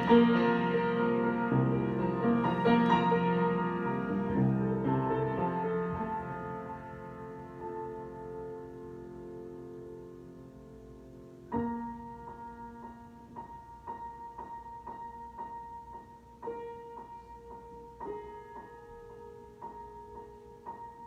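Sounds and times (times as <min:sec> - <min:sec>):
solo piano improvisation: 0:00.0 - 0:21.0.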